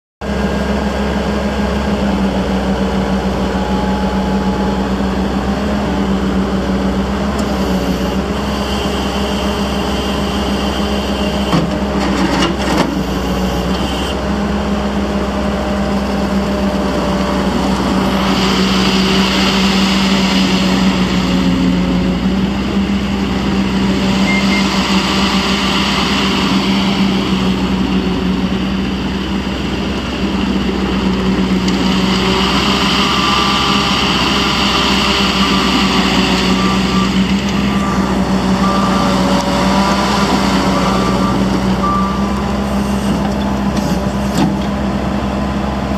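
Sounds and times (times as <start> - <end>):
diesel engine running: 0.2 - 45.9.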